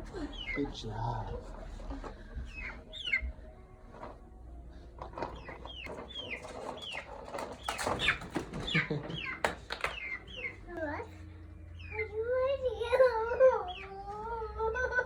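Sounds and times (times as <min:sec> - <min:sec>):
chickens chirping: 0:00.0 - 0:04.1, 0:05.0 - 0:10.8, 0:11.8 - 0:14.0.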